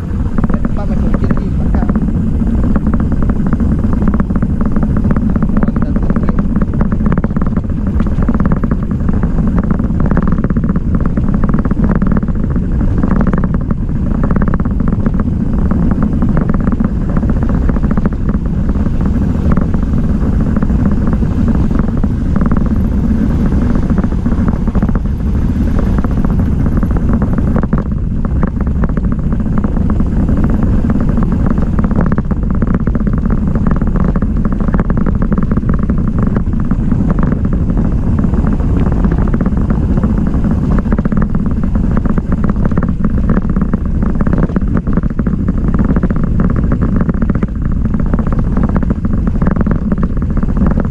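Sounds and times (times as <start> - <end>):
bike tyres rolling on asphalt: 0.0 - 50.9
wind on microphone: 0.0 - 50.9.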